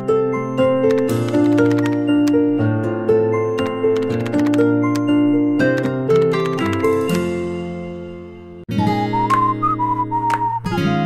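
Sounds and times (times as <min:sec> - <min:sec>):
light background melody: 0:00.0 - 0:11.0.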